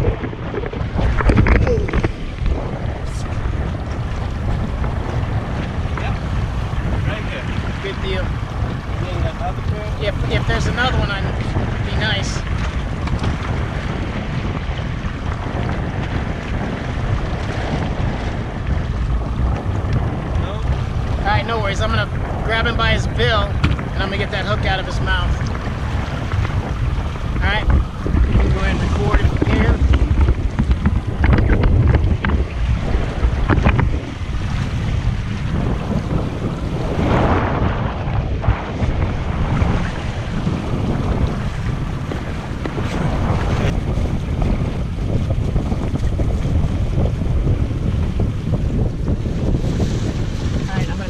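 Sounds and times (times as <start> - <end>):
water sloshing against boat: 0.0 - 51.0
wind buffeting microphone: 0.0 - 51.0.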